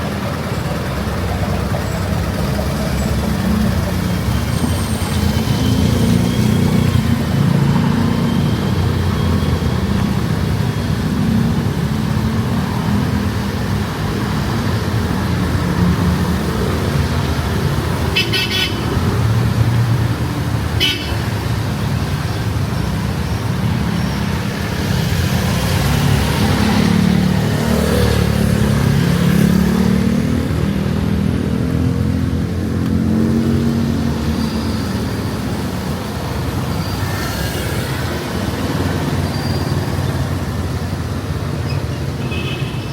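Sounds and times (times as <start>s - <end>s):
vehicle engines rumbling: 0.0s - 42.9s.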